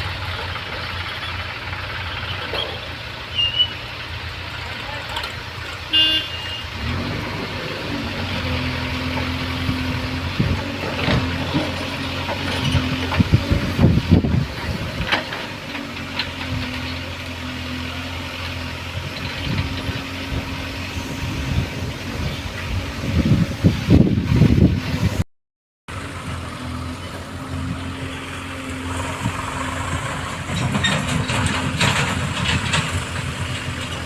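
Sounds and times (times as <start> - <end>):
diesel engine running: 0.0 - 25.2, 25.9 - 34.0.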